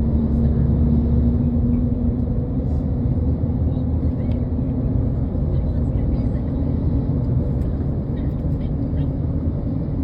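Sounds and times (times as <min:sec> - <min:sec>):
low vehicle rumble: 0:00.0 - 0:10.0.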